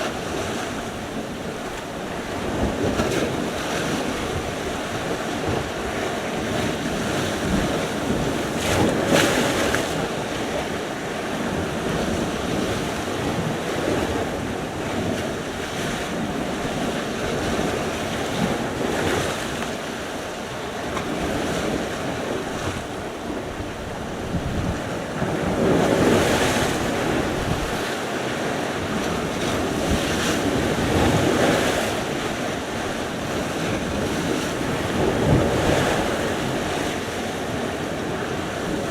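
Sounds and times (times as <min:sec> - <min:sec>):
sea surf waves breaking: 0:00.0 - 0:38.9
wind buffeting microphone: 0:00.0 - 0:38.9.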